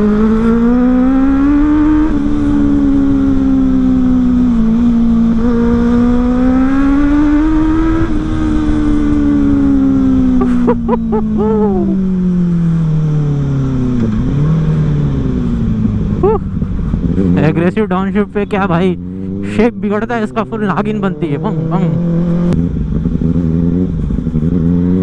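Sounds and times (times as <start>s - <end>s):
motorcycle accelerating through gears: 0.0s - 25.0s.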